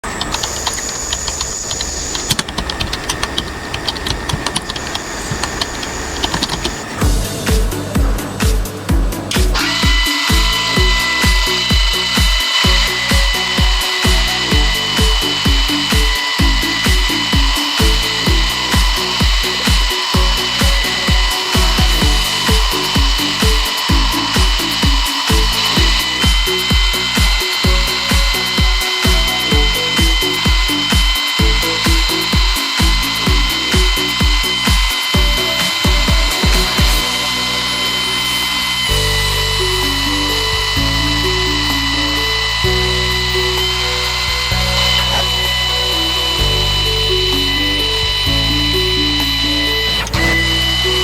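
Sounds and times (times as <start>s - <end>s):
lathe high-pitched whine and cutting: 0.0s - 51.0s
background music with bass beat: 7.0s - 51.0s.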